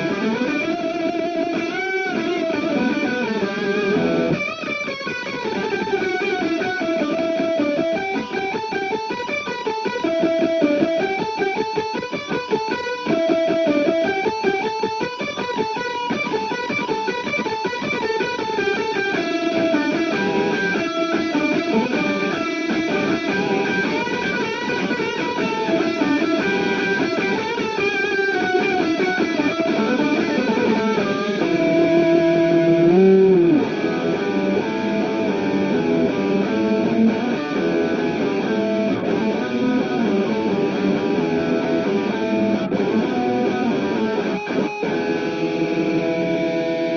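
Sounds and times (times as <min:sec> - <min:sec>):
electric guitar through harmonizer: 0:00.0 - 0:46.9.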